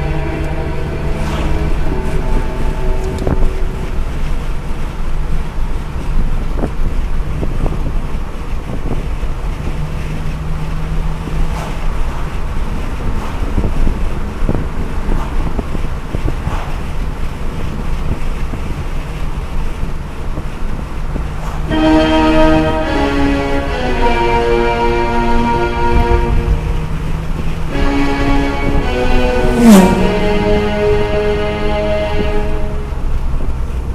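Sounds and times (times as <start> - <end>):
engine and tyre rumble: 0.0 - 33.9
wind buffeting microphone: 0.0 - 33.9.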